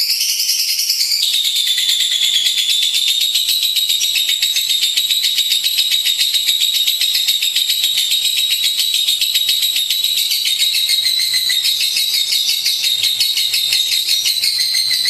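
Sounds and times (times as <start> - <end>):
lovebird chattering trill: 0.2 - 15.0.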